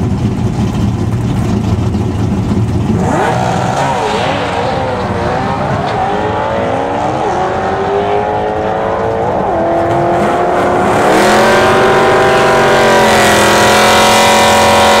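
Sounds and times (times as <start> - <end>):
car engine accelerating hard: 0.0 - 15.0
close car engine steady note: 0.0 - 15.0.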